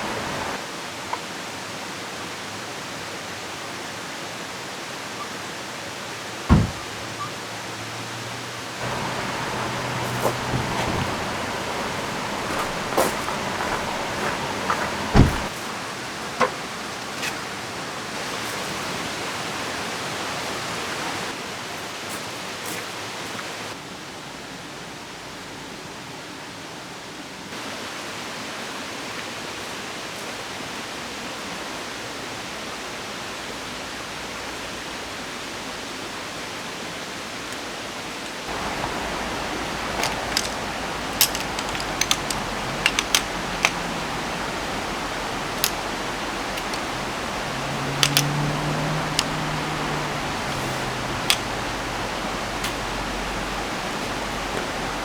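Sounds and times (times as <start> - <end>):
river flowing: 0.0 - 24.0, 27.5 - 55.0
falling rain: 0.0 - 55.0.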